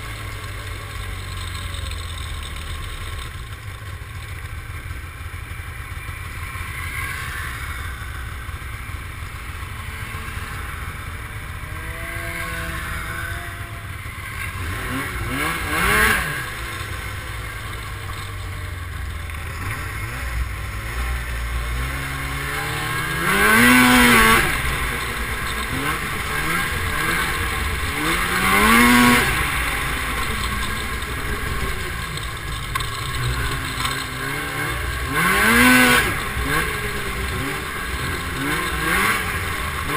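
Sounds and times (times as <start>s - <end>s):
snowmobile engines revving: 0.0s - 3.3s, 5.2s - 39.9s.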